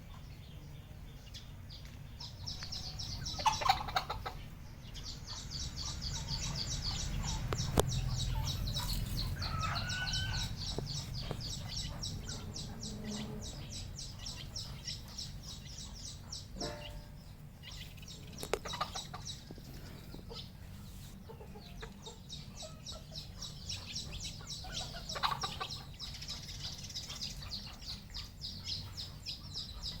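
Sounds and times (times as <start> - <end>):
junglefowl clucking and calling: 2.5 - 4.6, 5.3 - 17.1, 17.7 - 30.0.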